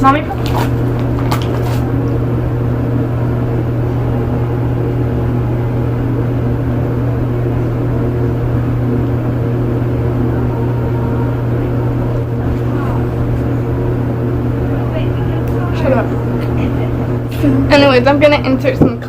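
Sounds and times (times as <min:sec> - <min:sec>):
loud machine hum: 0:00.0 - 0:19.0.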